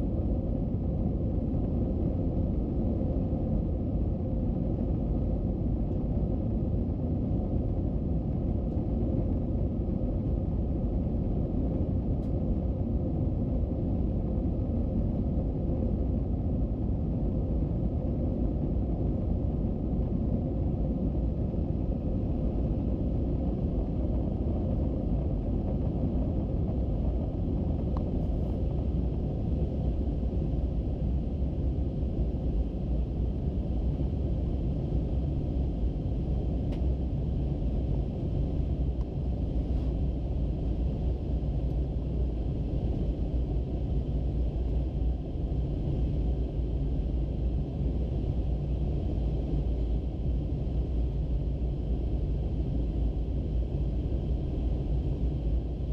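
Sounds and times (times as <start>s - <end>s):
aircraft engines rumbling in cabin: 0.0s - 55.9s
faint steady hum: 0.0s - 55.9s.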